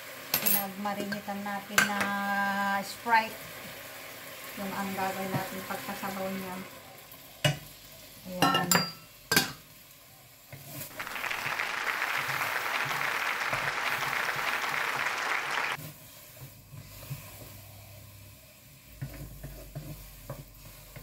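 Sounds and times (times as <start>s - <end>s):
chicken sizzling in a wok: 0.0s - 21.0s.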